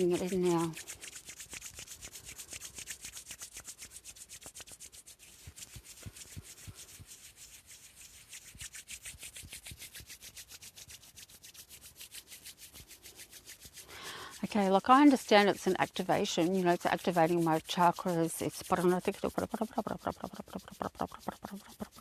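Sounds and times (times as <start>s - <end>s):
hands rubbing together: 0.0s - 22.0s.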